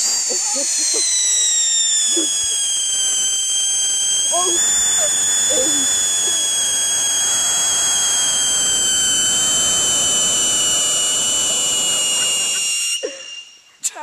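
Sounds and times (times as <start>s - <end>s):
whistling firework shrill whistle: 0.0s - 13.8s.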